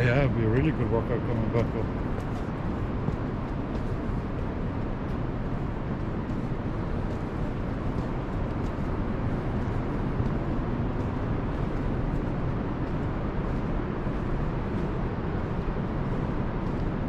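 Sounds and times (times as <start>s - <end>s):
low rumbling noise: 0.0s - 17.0s
footsteps on dirt trail: 1.5s - 17.0s.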